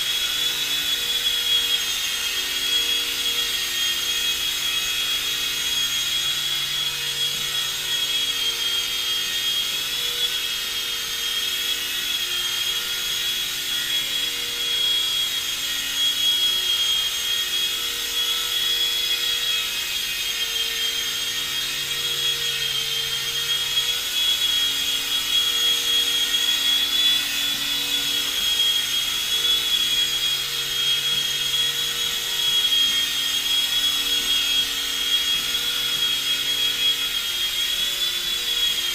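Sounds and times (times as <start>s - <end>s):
toy helicopter motor whine: 0.0s - 38.9s.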